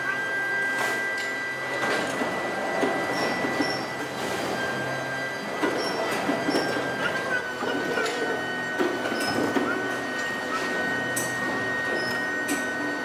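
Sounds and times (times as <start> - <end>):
machinery high whine: 0.0 - 13.0.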